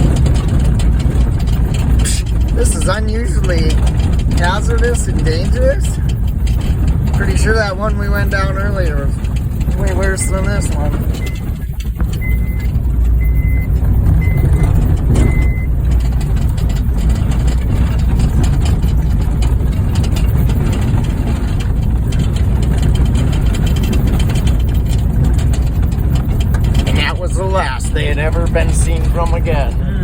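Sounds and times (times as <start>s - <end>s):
car body jolting and rattling: 0.0s - 30.0s
car engine and road rumble: 0.0s - 30.0s.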